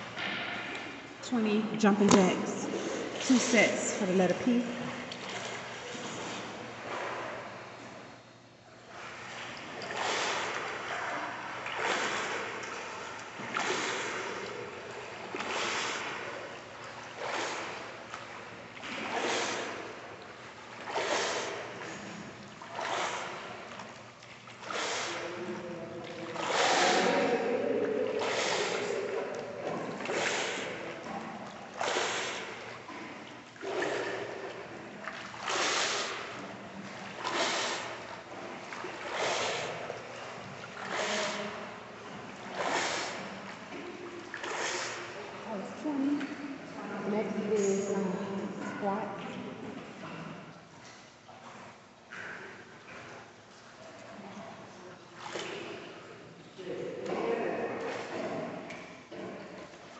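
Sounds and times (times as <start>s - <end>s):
water splashing in a pool: 0.0s - 59.9s.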